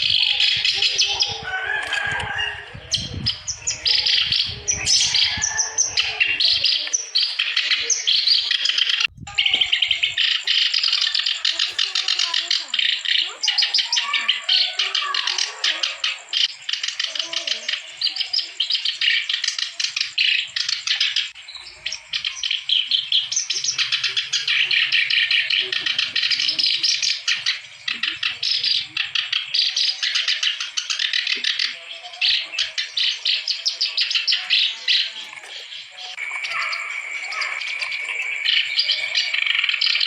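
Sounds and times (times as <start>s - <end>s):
reed warbler singing: 0.0s - 40.0s.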